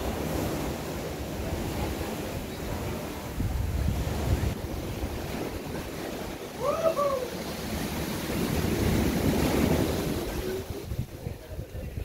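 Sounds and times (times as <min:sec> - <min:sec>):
ocean waves breaking: 0:00.0 - 0:12.0
wind buffeting microphone: 0:00.0 - 0:12.0.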